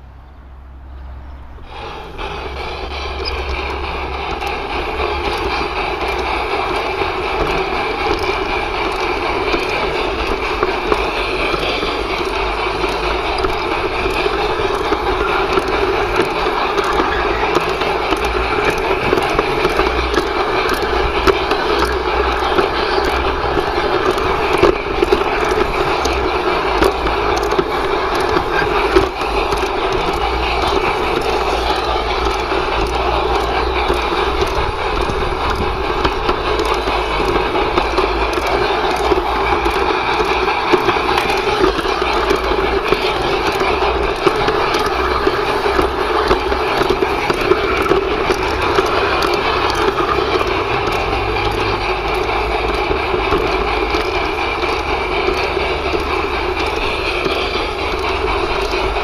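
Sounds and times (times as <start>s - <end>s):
model train wheels rumbling: 0.0s - 59.0s
small irregular track clicks: 0.0s - 59.0s.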